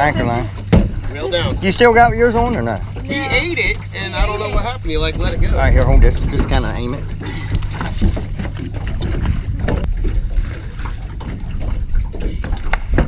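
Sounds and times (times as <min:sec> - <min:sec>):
low rumble: 0:00.0 - 0:13.0
water lapping against boat hull: 0:00.0 - 0:13.0
wind buffeting microphone: 0:00.0 - 0:13.0.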